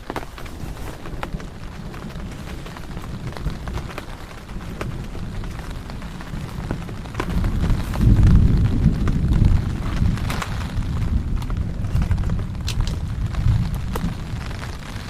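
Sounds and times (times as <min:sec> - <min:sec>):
heavy rain falling: 0:00.0 - 0:15.0
low rumble of thunder: 0:00.0 - 0:15.0.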